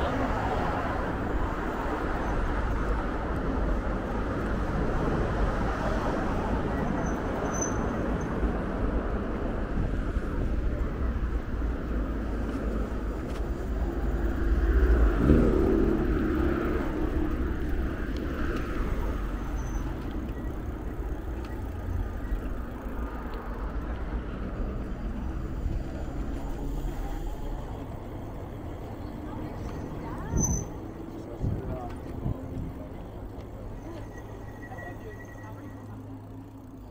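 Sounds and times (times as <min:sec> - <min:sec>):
tyre noise on path: 0:00.0 - 0:36.9.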